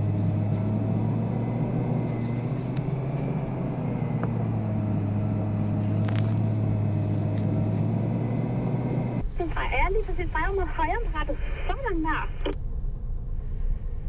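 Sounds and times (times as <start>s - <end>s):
car interior drone: 0.0s - 14.0s.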